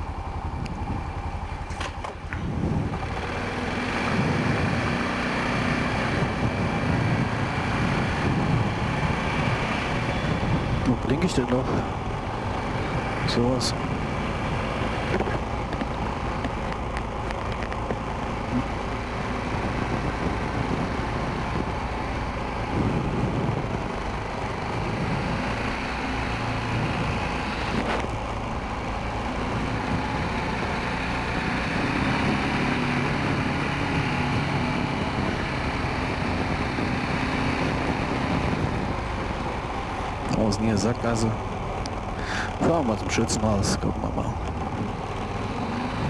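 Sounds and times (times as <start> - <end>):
atv engine running: 0.0 - 46.0
travel noise rumble: 0.0 - 46.0.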